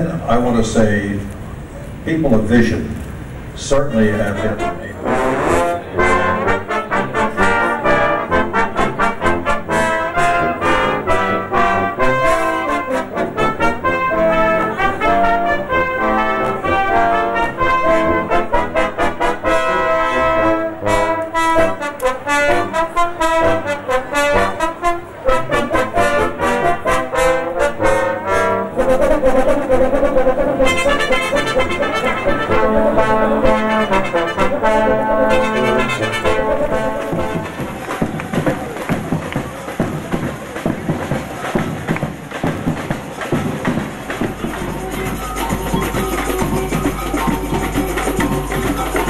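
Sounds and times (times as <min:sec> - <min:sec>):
brass band playing: 0:03.7 - 0:49.0.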